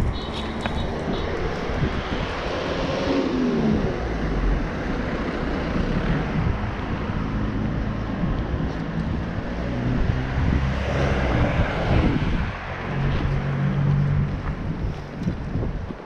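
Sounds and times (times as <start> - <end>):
outdoor street noise: 0.0 - 16.0.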